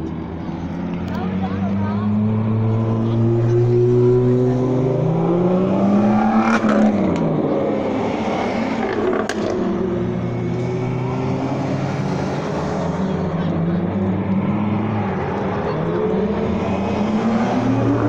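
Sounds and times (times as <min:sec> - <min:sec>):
sports car engines revving: 0:00.0 - 0:18.0.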